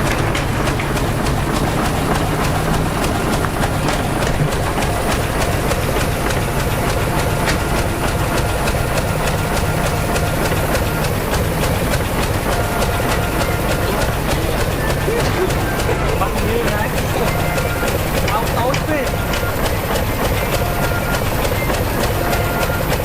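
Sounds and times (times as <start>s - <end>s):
bulldozer diesel engine: 0.0s - 23.0s
steel tracks clanking: 0.0s - 23.0s.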